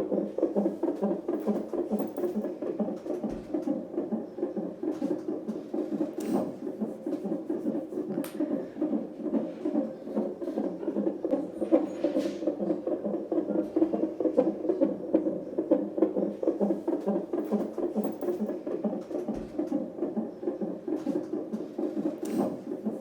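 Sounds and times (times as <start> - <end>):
fetal heartbeat on doppler ultrasound: 0.0 - 23.0.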